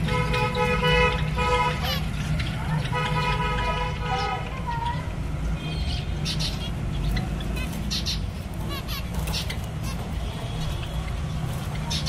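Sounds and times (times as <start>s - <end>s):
finches calling: 0.0s - 12.0s.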